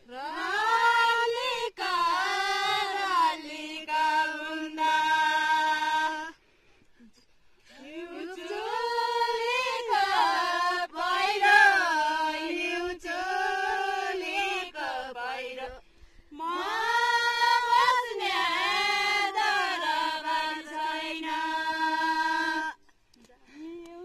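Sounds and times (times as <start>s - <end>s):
women singing unaccompanied: 0.0s - 6.4s, 7.6s - 24.0s.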